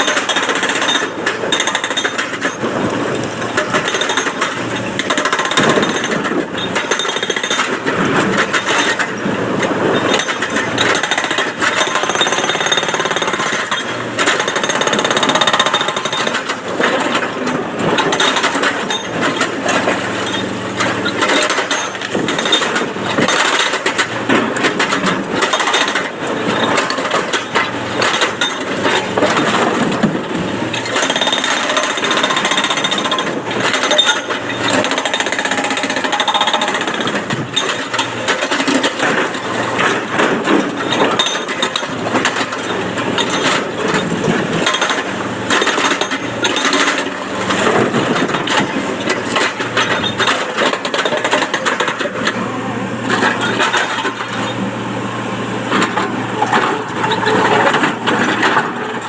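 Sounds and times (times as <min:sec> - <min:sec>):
hydraulic rock breaker pounding: 0:00.0 - 0:59.0.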